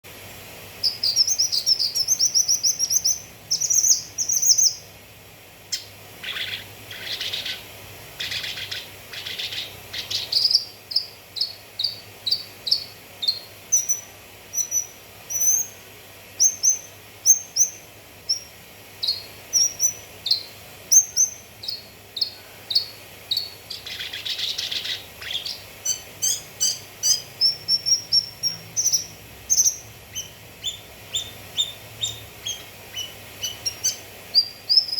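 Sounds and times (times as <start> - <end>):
bird chattering: 0.8 - 4.9, 5.7 - 15.8, 16.4 - 34.9
bird song with chirps and trills: 0.8 - 4.9, 5.7 - 15.8, 16.4 - 34.9.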